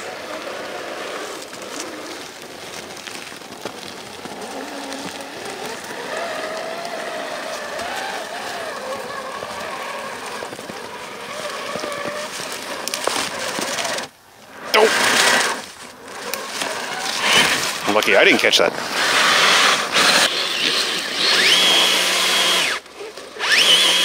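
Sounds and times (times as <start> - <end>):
rc car motor whining: 0.0 - 24.0
tyres crunching over snow: 0.0 - 24.0.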